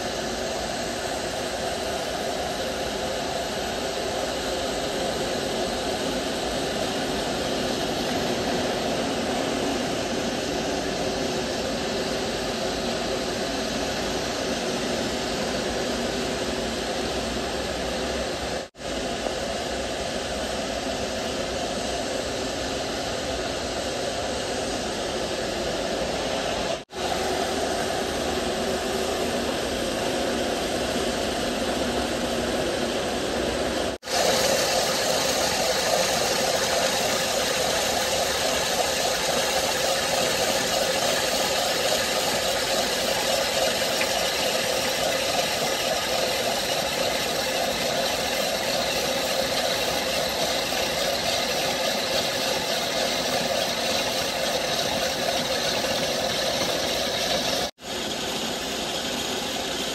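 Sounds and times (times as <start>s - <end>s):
machine running: 0.0s - 59.9s.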